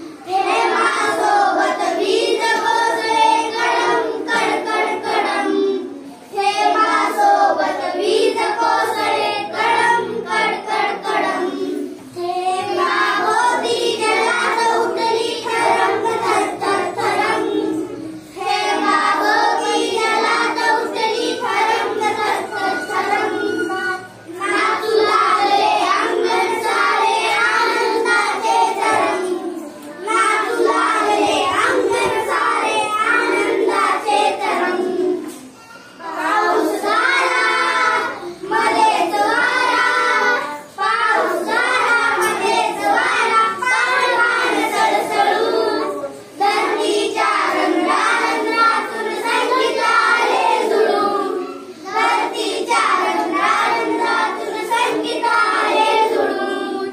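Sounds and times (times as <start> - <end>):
girls singing together: 0.0 - 56.9.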